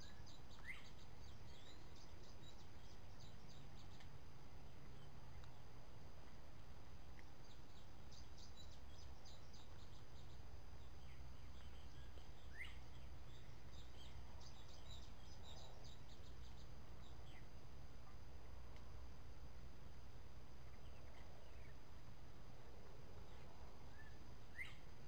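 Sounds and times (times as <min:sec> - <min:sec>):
small birds chirping: 0:00.0 - 0:19.0, 0:20.6 - 0:22.2, 0:22.8 - 0:25.0.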